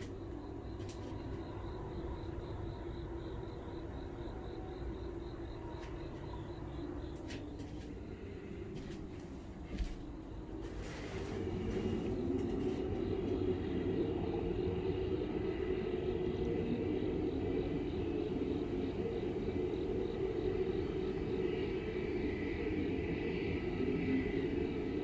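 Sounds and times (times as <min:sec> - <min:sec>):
low rumbling drone: 0:00.0 - 0:25.0.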